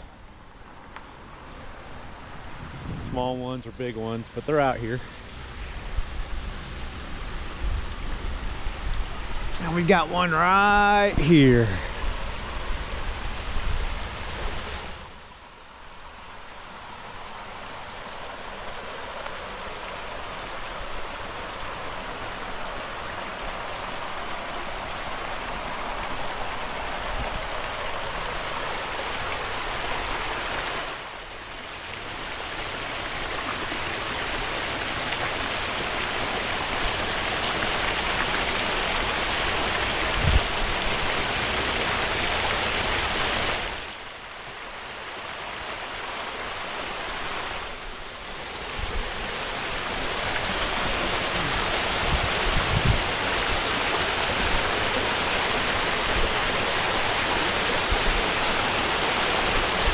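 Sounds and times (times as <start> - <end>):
waterfall rushing: 3.4 - 59.9.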